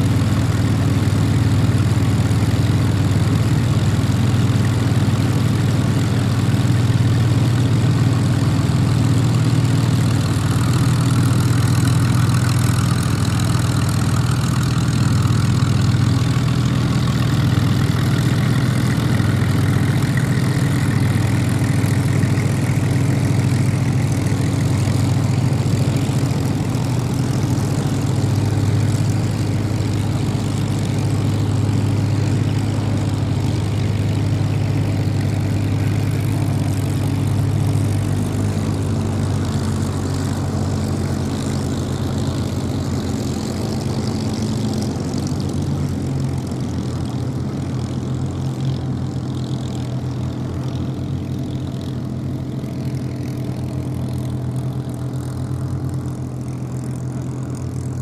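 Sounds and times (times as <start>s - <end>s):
deep propeller engine drone: 0.0s - 58.0s.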